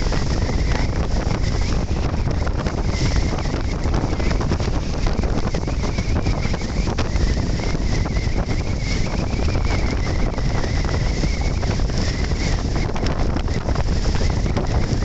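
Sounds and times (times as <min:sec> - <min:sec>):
faint high whine: 0:00.0 - 0:15.0
wind buffeting a microphone: 0:00.0 - 0:15.0.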